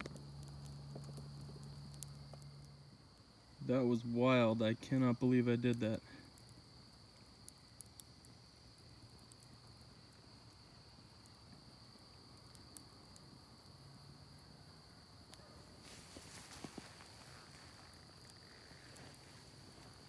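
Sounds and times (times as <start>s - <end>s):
campfire crackling and popping: 0.0s - 20.0s
insect trilling: 0.0s - 20.0s.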